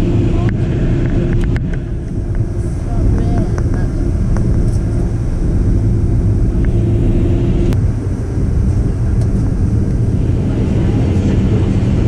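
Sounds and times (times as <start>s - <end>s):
aircraft cabin engine rumble: 0.0s - 12.0s
steady hum: 0.0s - 12.0s.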